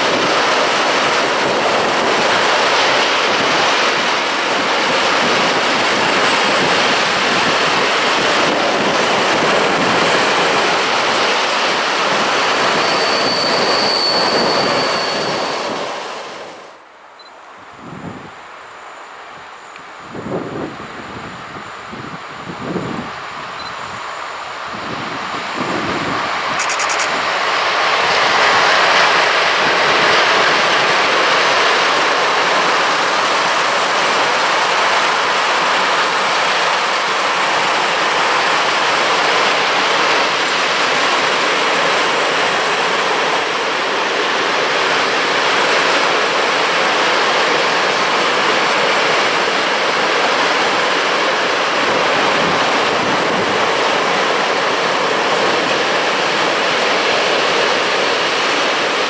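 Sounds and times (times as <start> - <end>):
freight train wheels on rails: 0.0 - 16.9, 17.8 - 59.0.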